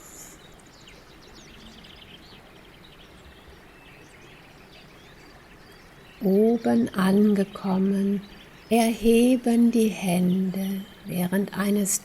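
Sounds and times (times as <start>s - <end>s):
faint steady hiss: 0.0s - 12.0s
small birds chirping: 0.0s - 12.0s.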